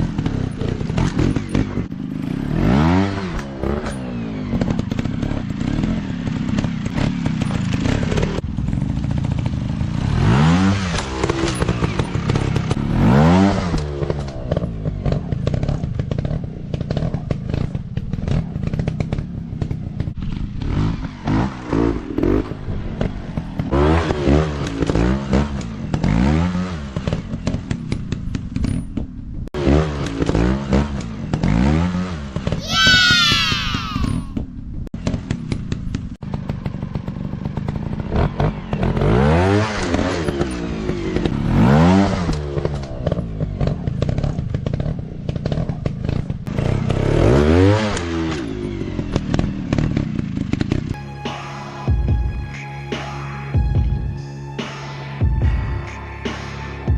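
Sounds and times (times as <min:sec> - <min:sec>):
dirt bike engine revving: 0:00.0 - 0:28.8, 0:29.5 - 0:34.3, 0:35.0 - 0:51.0.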